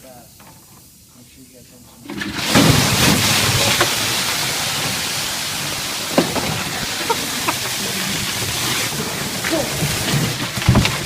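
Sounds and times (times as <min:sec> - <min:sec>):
water gushing through drain: 0:02.0 - 0:11.0.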